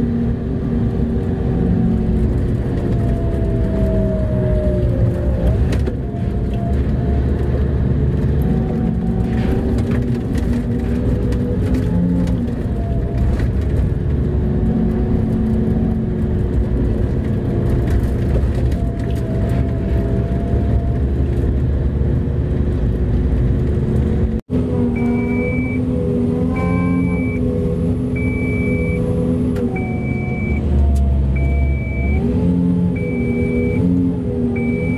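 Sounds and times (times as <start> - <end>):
diesel engine drone from inside cab: 0.0 - 34.9.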